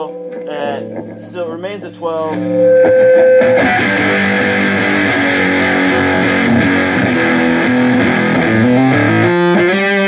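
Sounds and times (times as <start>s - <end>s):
fuzzed electric guitar: 0.0s - 10.0s.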